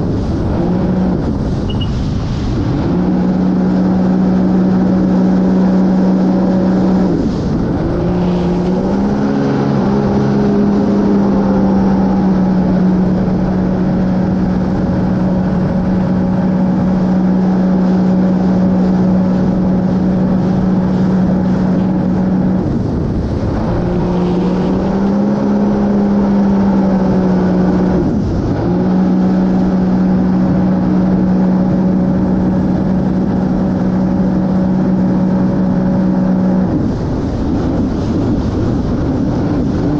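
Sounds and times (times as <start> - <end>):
jet ski engine revving: 0.0 - 39.9
rush of water and wind: 0.0 - 39.9.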